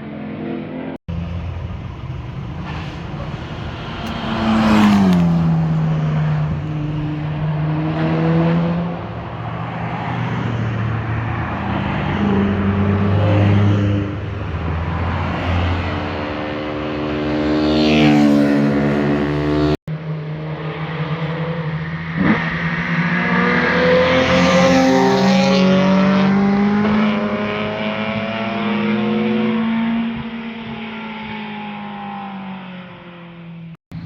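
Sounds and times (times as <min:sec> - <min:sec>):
sports cars driving past: 0:01.1 - 0:31.4.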